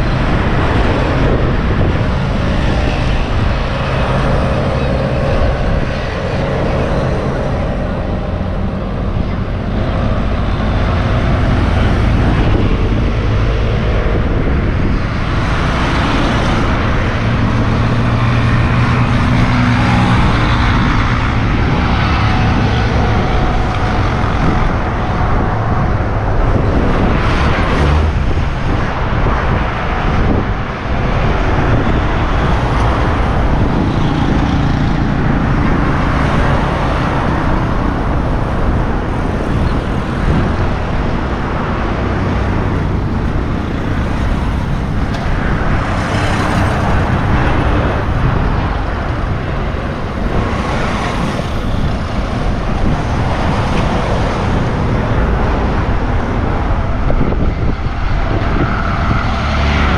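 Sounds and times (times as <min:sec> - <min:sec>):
vehicle engines passing: 0:00.0 - 0:59.9.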